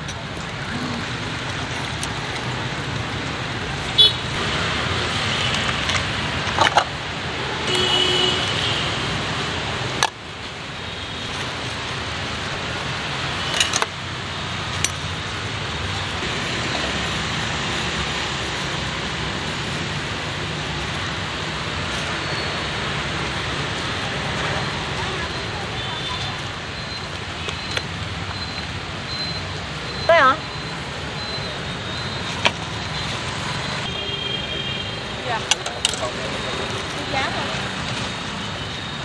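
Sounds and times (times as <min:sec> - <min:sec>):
road traffic hum: 0:00.0 - 0:39.0.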